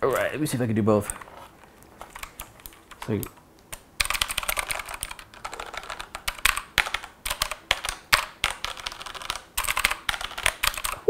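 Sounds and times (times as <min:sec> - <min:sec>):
mechanical keyboard typing: 0:02.0 - 0:11.0.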